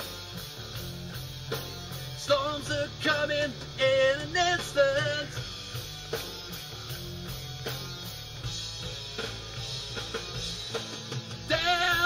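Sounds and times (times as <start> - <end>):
heavy rock backing track: 0.0 - 12.0.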